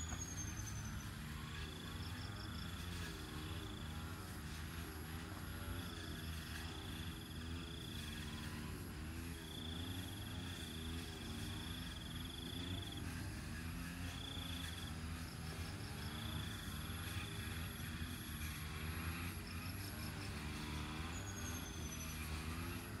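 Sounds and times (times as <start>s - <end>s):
distant engine hum: 0.0s - 23.0s.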